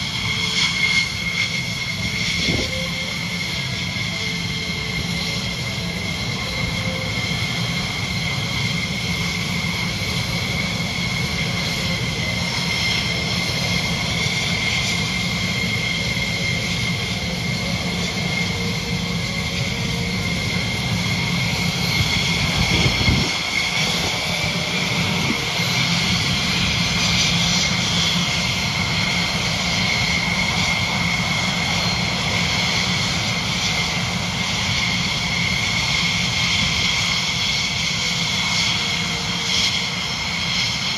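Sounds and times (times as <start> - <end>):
jet engine rumble with high whine: 0.0 - 40.9.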